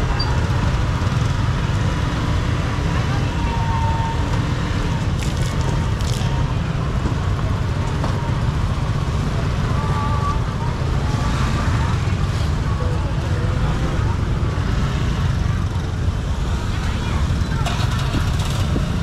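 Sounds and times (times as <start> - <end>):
motorbike traffic rumble: 0.0 - 19.0.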